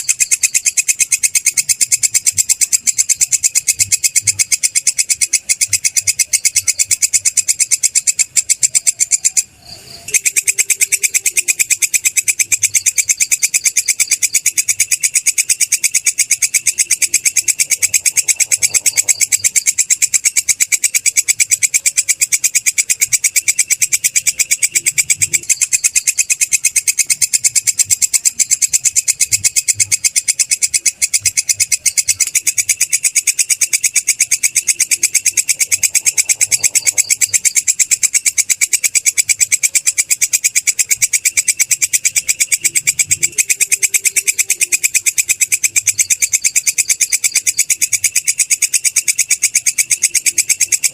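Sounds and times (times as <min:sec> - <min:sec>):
katydid chirring: 0:00.0 - 0:50.9.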